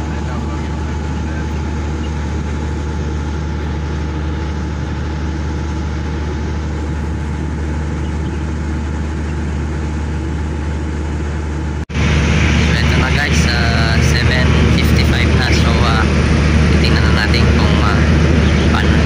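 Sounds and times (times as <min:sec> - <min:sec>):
diesel generator running: 0:00.0 - 0:19.0.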